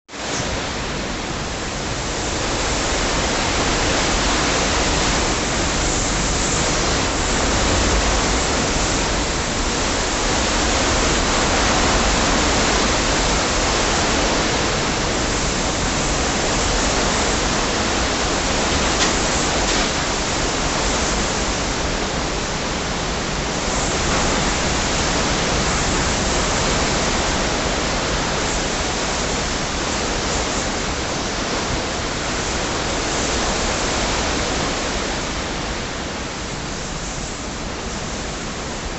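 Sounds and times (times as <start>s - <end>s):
hurricane wind and rain: 0.1s - 38.9s.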